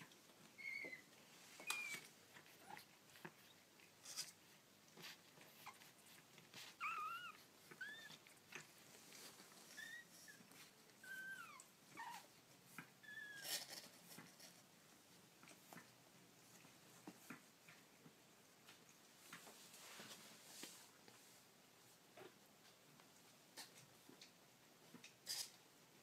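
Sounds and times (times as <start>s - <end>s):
soft rustles: 0.0s - 26.0s.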